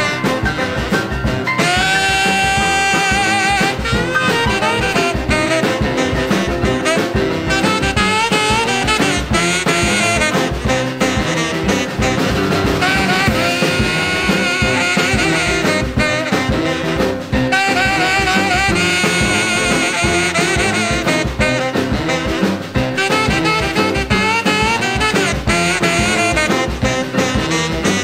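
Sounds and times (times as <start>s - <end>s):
swing jazz music: 0.0s - 28.0s.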